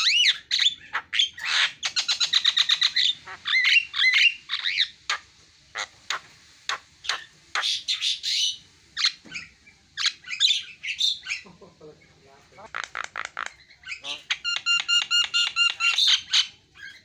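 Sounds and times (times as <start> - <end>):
myna bird singing: 0.0 - 17.0.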